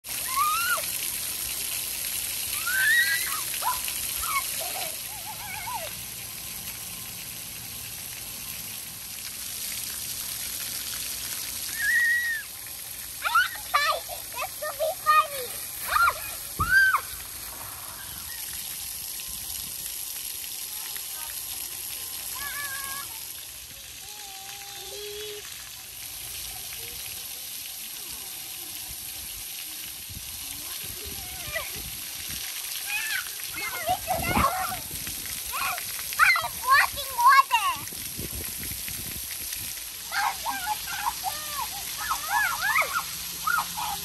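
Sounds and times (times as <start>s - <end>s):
water jets spraying on concrete: 0.0s - 44.0s.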